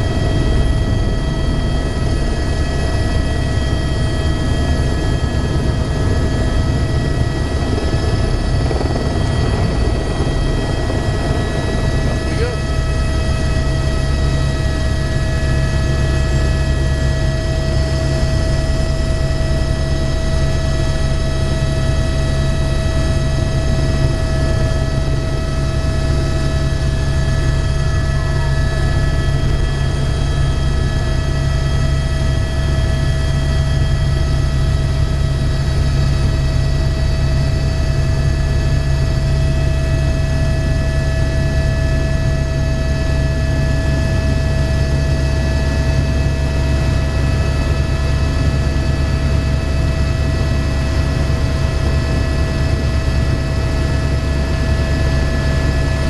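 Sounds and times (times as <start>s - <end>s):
helicopter engine and rotor drone: 0.0s - 56.0s
high-pitched engine whine: 0.0s - 56.0s.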